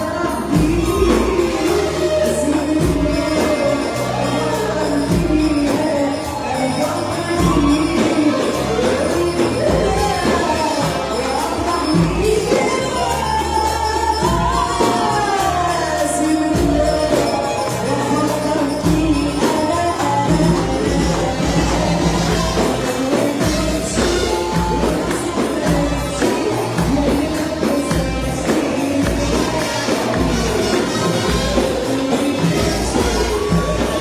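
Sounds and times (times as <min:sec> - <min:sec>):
band with steady beat: 0:00.0 - 0:34.0
jingling percussion: 0:00.0 - 0:34.0
woman singing: 0:00.0 - 0:34.0.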